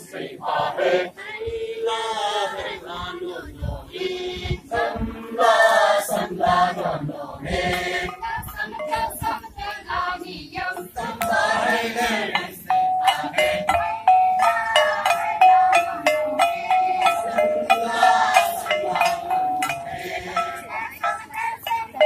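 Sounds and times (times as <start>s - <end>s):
group chanting a song: 0.0s - 22.0s.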